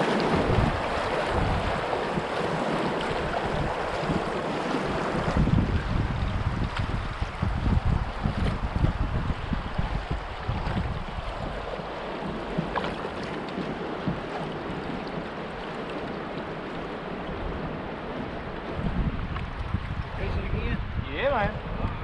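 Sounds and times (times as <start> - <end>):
water washing along kayak hull: 0.0 - 22.0
wind buffeting microphone: 0.0 - 22.0.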